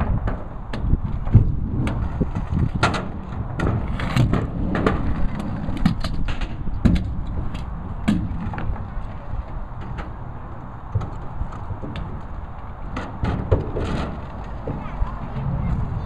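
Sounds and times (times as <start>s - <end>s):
scooter clicks and knocks: 0.0s - 16.0s
scooter wheels rumbling: 0.0s - 16.0s.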